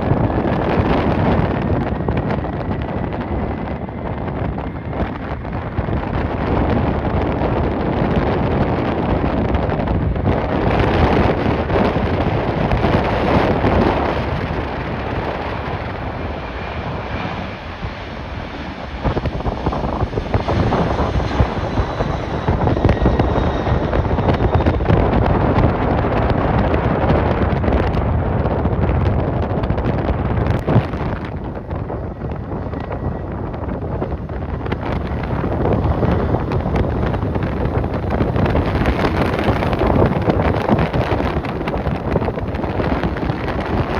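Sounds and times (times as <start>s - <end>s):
jet engines running: 0.0s - 43.9s
wind buffeting microphone: 0.0s - 43.9s.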